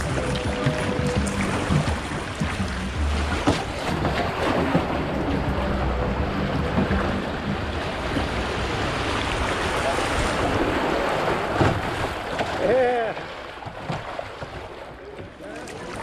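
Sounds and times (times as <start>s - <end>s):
river water rushing: 0.0s - 14.5s
short splashes: 0.0s - 16.0s.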